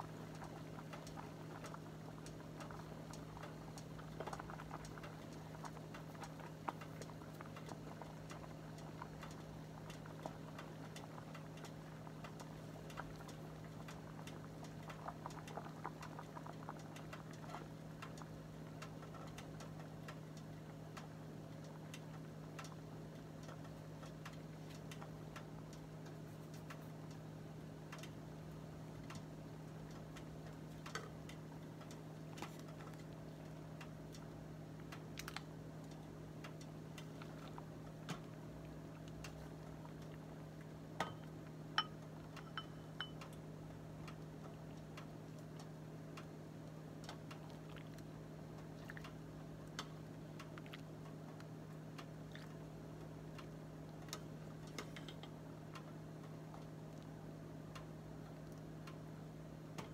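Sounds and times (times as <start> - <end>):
soup boiling in a pot: 0.0 - 59.9
steady low hum: 0.0 - 59.9.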